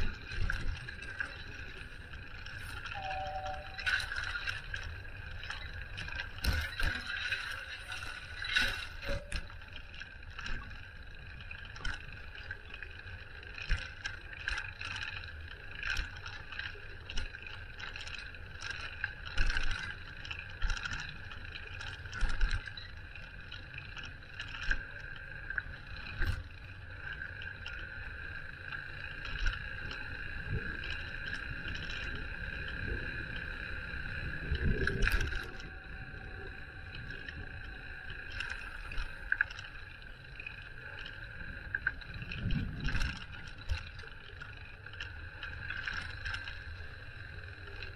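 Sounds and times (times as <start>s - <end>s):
bicycle rattling over bumps: 0.0s - 47.9s
wind rumbling on microphone: 0.0s - 47.9s.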